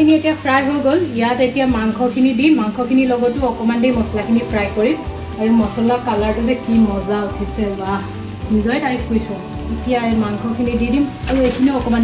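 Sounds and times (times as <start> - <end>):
background music with melody: 0.0 - 12.0
spices sizzling in hot oil: 0.0 - 12.0.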